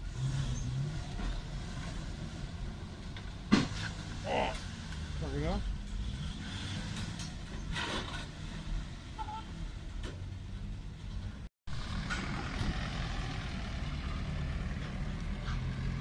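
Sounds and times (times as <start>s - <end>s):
vehicle engines humming: 0.0s - 16.0s.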